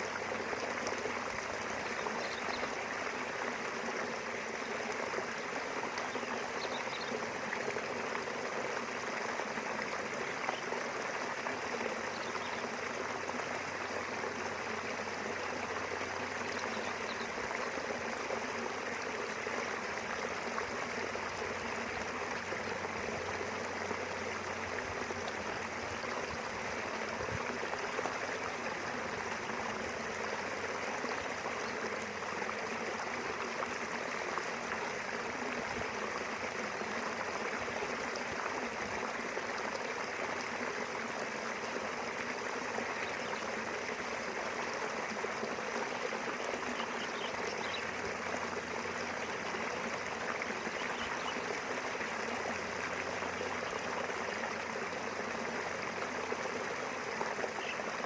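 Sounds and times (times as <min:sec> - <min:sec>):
river flowing: 0:00.0 - 0:58.0.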